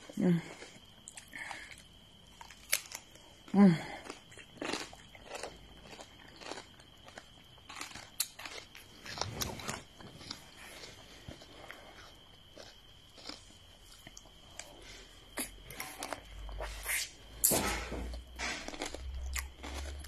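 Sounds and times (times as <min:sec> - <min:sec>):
crunching cucumber: 0:00.6 - 0:14.7, 0:15.3 - 0:20.0.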